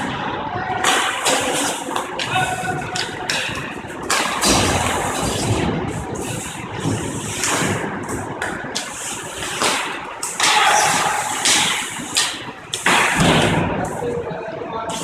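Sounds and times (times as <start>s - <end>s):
steady background hum: 0.0s - 15.0s
skate blades scraping ice: 0.8s - 13.4s.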